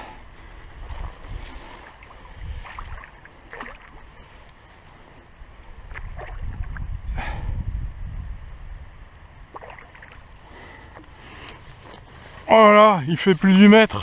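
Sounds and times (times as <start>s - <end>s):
wind rumbling on microphone: 0.0s - 12.5s.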